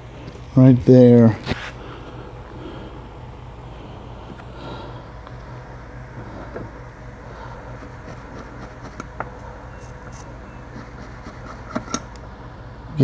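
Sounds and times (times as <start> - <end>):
small fan humming: 0.0 - 13.0.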